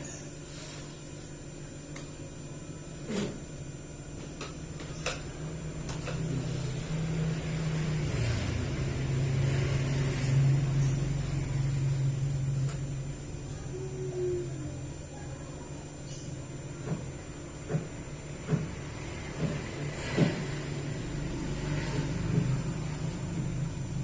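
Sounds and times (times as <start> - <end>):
low motor hum: 3.0 - 24.0.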